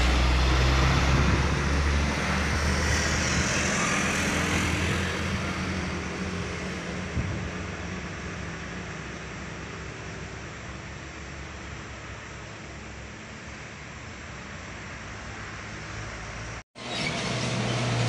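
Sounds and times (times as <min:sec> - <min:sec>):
diesel truck engine: 0:00.0 - 0:18.0.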